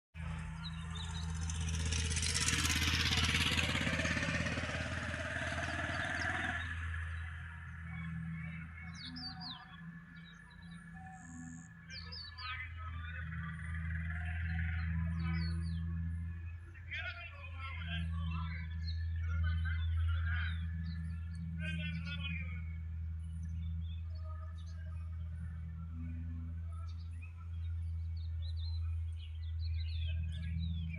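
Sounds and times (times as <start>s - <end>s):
motor vehicle passing with whine: 0.2s - 30.9s
small birds chirping: 0.2s - 30.9s
steady low hum: 0.2s - 30.9s.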